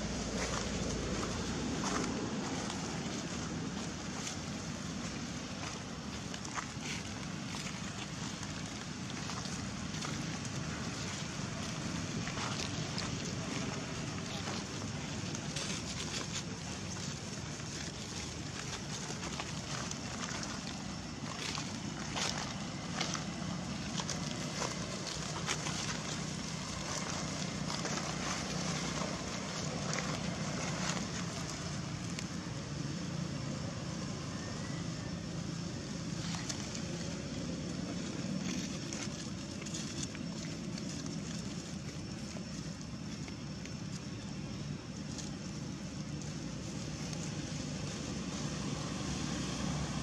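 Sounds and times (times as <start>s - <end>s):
dry leaves crackling: 0.0s - 50.0s
low even hum: 0.0s - 50.0s.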